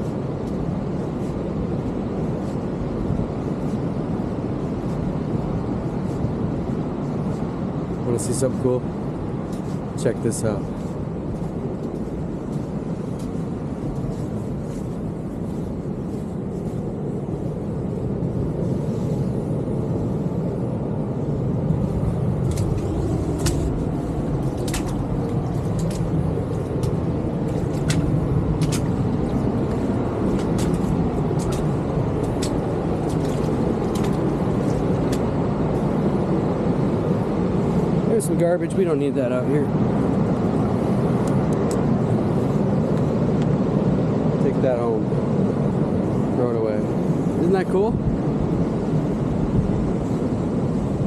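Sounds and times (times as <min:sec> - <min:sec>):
ocean surf roaring: 0:00.0 - 0:51.0.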